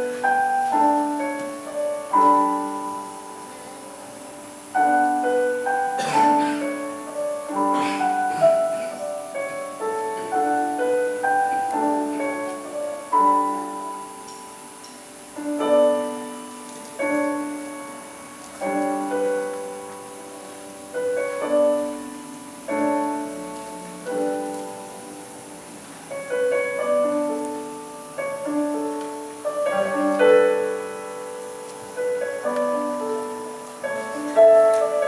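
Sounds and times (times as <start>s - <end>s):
slow piano chords: 0.0s - 35.0s.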